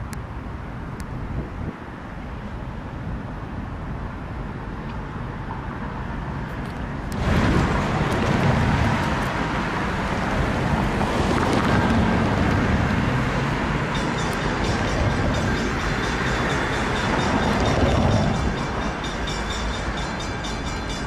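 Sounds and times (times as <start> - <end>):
diesel locomotive engine: 0.0 - 21.0
road traffic: 0.0 - 21.0.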